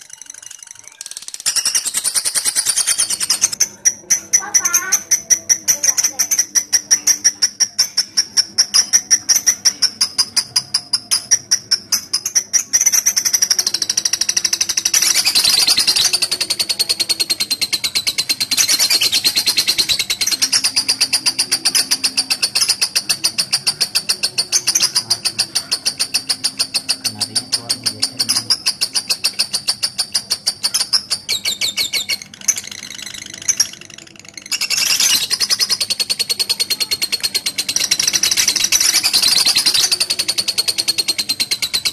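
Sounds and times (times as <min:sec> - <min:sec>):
lovebird fast high chirps: 0:00.0 - 0:41.9.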